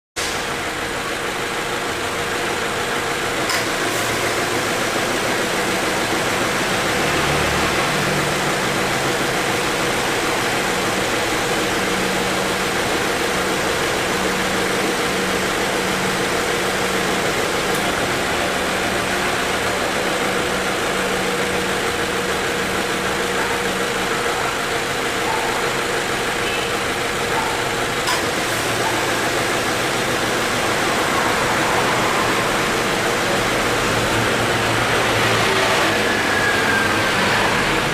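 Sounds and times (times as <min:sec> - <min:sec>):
air conditioning compressor noise: 0:00.2 - 0:37.9
car engine idling: 0:00.2 - 0:37.9.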